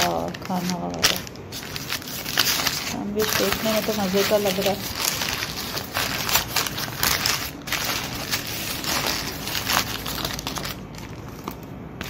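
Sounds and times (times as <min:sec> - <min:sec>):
paper wrapper and plastic bag crinkling: 0:00.0 - 0:12.0.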